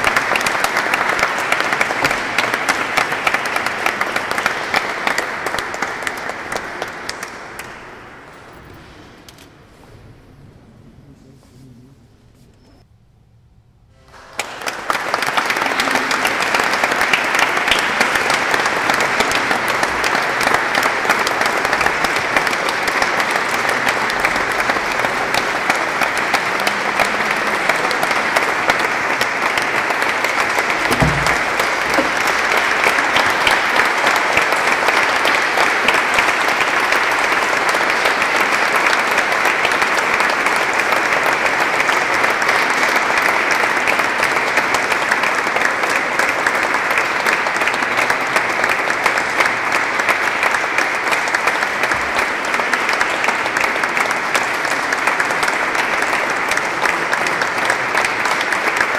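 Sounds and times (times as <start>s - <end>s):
audience applauding: 0.0s - 9.4s, 14.0s - 58.9s.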